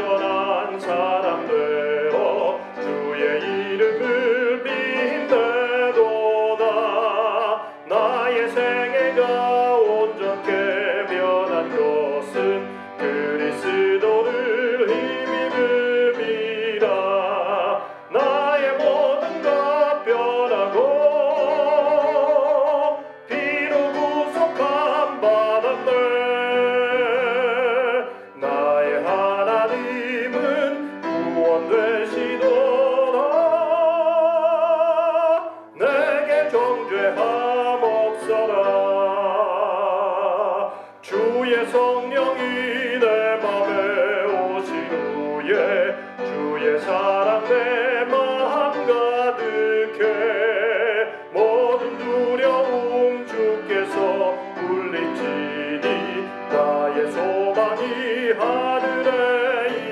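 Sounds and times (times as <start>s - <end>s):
person singing a hymn: 0.0s - 59.9s
piano accompaniment: 0.0s - 59.9s.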